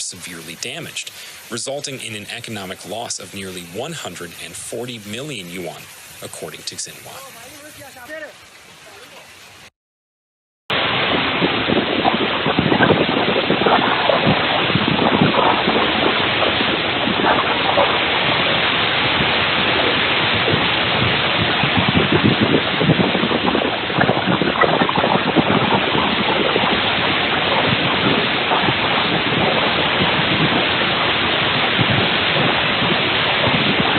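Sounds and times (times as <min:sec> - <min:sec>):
water rushing roar: 0:00.0 - 0:09.7, 0:10.7 - 0:33.9.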